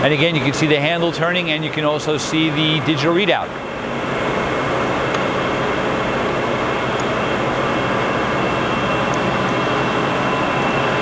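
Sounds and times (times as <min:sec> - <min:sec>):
faint high whine: 0:00.8 - 0:11.0
lathe machine hum: 0:01.4 - 0:11.0.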